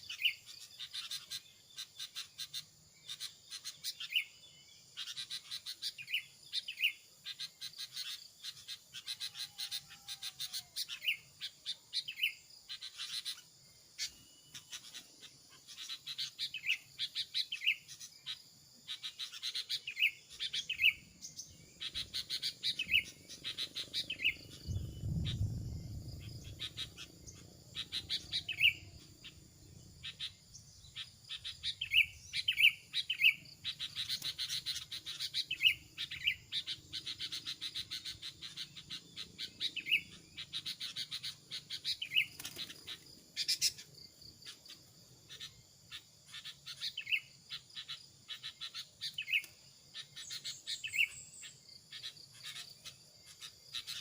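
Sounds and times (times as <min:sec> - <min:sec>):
fast ticking bird chatter: 0:00.0 - 0:04.2, 0:05.0 - 0:25.2, 0:26.1 - 0:54.0
bird chirps: 0:00.0 - 0:54.0.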